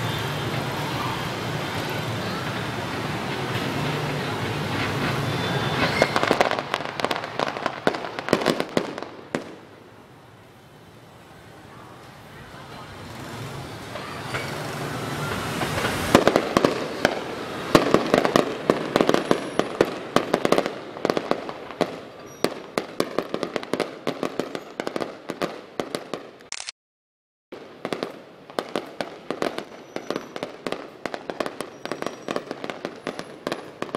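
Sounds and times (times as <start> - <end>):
firework bangs and crackles: 0.0 - 26.5, 27.5 - 33.9.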